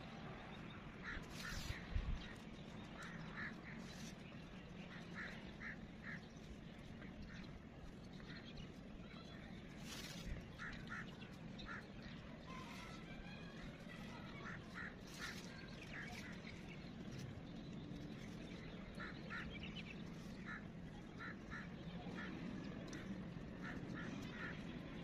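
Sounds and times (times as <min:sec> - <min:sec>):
low background hum: 0:00.0 - 0:25.0
faint bird calls: 0:01.0 - 0:25.0.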